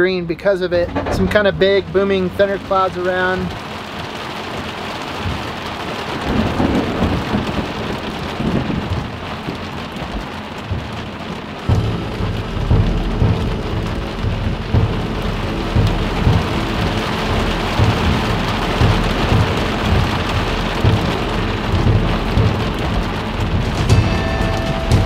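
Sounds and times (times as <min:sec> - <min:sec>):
heavy rain on dirt road: 0:00.0 - 0:25.0
low thunder rumble: 0:00.6 - 0:25.0.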